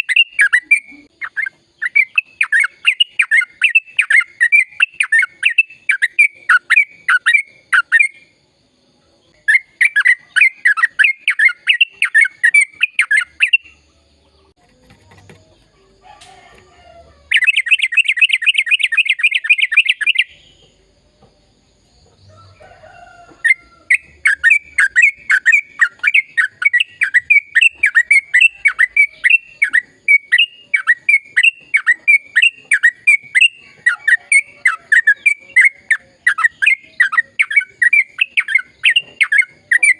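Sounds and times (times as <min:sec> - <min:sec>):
bird singing rapid sharp notes: 0:00.0 - 0:08.3, 0:09.4 - 0:13.8, 0:17.3 - 0:20.6, 0:23.9 - 0:39.9.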